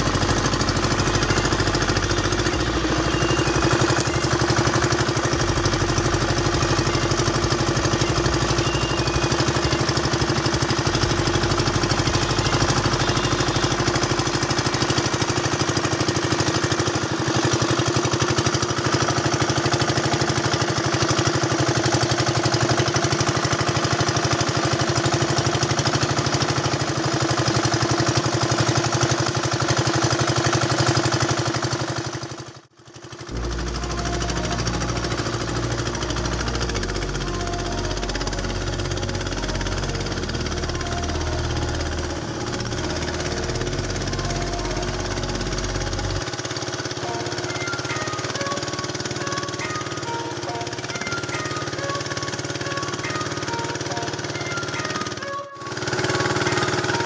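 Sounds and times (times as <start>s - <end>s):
boat engine chugging: 0.0s - 57.0s.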